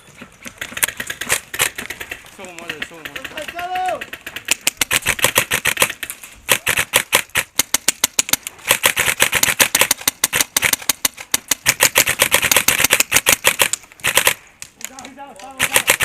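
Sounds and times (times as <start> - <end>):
airsoft guns firing rapidly: 0.6 - 14.4, 15.3 - 16.0.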